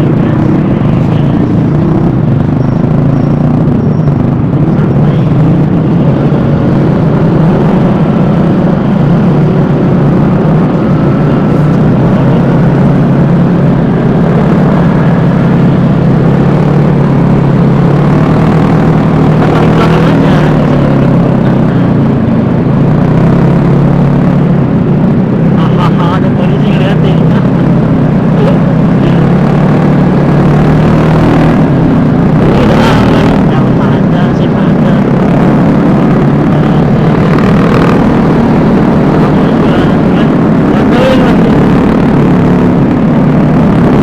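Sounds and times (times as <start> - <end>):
scooter engine running: 0.0 - 44.0
wind and road noise: 0.0 - 44.0.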